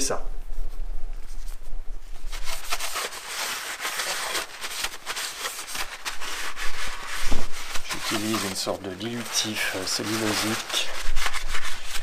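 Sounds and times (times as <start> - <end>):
cloth rag rubbing metal: 2.2 - 12.0.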